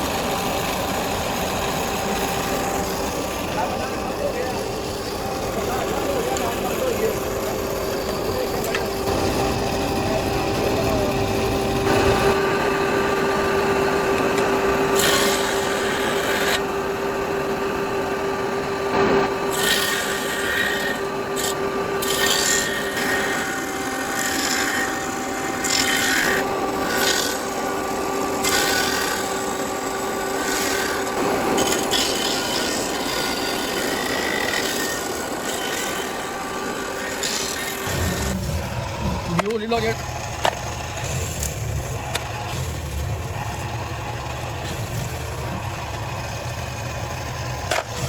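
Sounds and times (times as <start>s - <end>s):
bone rasping on grinder: 0.0s - 48.0s
power tool motor hum: 0.0s - 48.0s.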